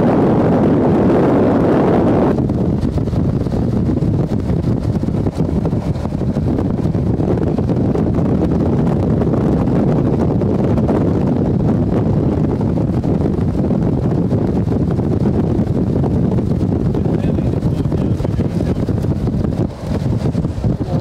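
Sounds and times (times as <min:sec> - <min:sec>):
vehicle rumble: 0:00.0 - 0:21.0
wind on microphone: 0:00.0 - 0:21.0.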